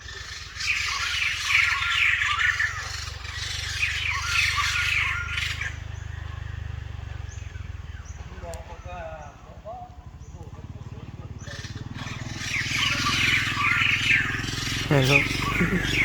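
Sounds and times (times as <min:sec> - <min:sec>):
birds chattering: 0:00.0 - 0:16.0
steady low hum: 0:00.0 - 0:16.0.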